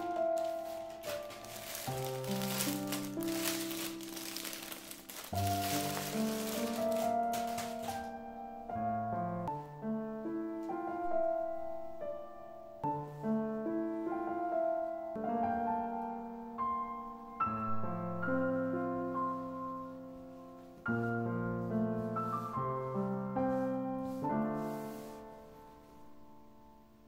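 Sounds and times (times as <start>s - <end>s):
gentle piano chords: 0.0s - 27.0s.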